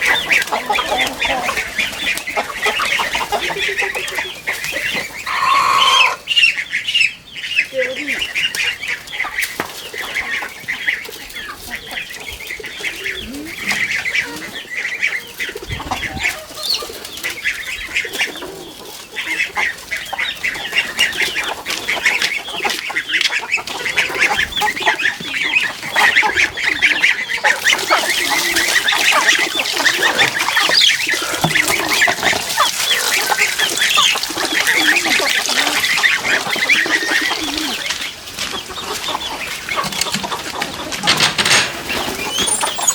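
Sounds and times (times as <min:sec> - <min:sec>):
poultry flock calling: 0:00.0 - 0:42.9.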